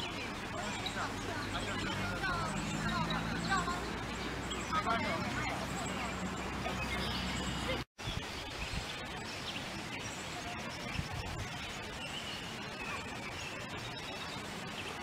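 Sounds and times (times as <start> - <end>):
birds chirping faintly: 0.0 - 15.0
outdoor background hiss: 0.0 - 15.0.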